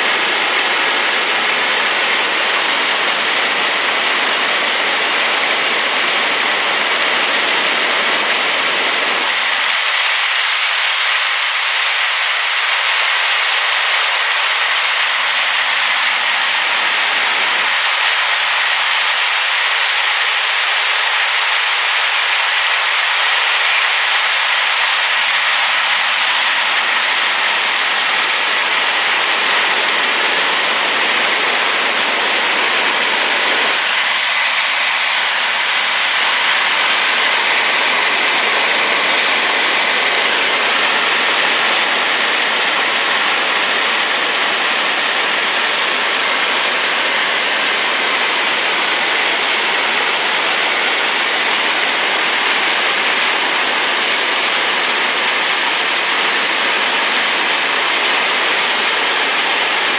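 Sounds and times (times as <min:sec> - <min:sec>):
waterfall pouring: 0:00.0 - 0:59.9.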